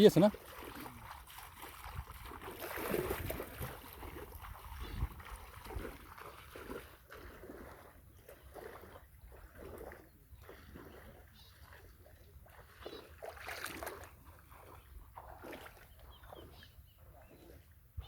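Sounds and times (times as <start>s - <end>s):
river water sloshing and splashing: 0.0s - 18.0s.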